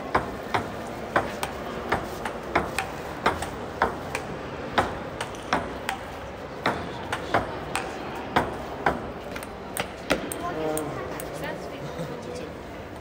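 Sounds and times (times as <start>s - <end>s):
ping-pong ball hitting paddles: 0.1s - 11.3s.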